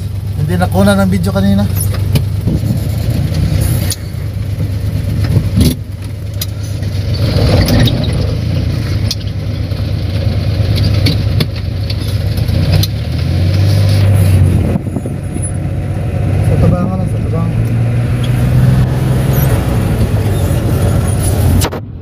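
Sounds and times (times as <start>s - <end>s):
van engine running: 0.0s - 22.0s.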